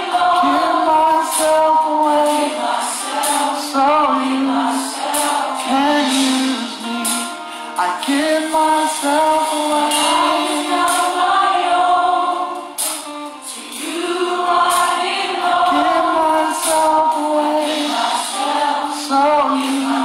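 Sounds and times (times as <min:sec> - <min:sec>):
voices singing in harmony: 0:00.0 - 0:20.0.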